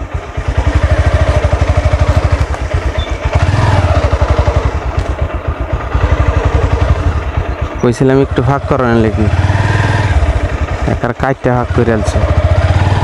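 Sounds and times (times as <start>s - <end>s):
motorcycle engine thumping: 0.0s - 11.2s.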